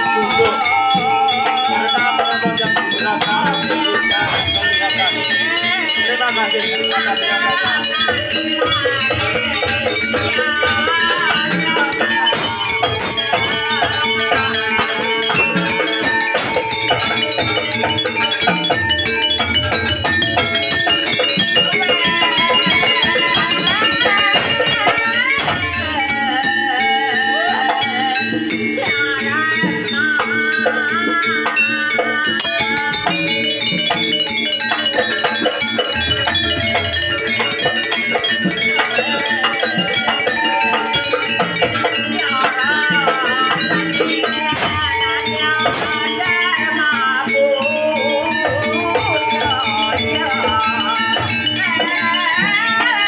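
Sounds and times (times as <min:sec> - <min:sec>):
jingling rattles: 0:00.0 - 0:53.0
wavering melody line: 0:00.0 - 0:53.0.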